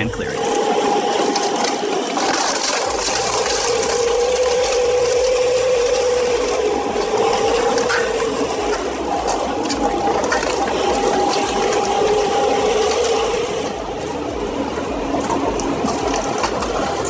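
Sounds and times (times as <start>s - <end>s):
dense grinding noise: 0.0s - 17.0s
heavy machinery whine: 0.0s - 17.0s.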